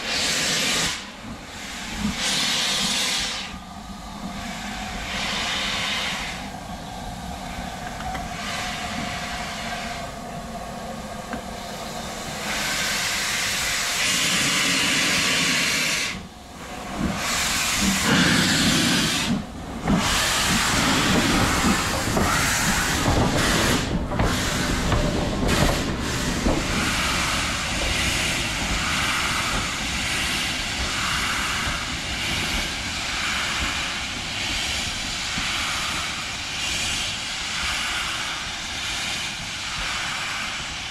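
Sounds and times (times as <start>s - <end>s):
locomotive exhaust beats: 0.0s - 40.9s
steam locomotive hissing: 0.0s - 40.9s.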